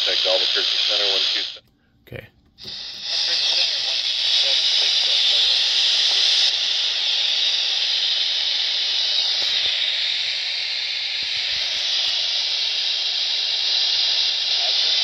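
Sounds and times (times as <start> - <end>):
radio static hiss: 0.0 - 1.6, 2.6 - 15.0.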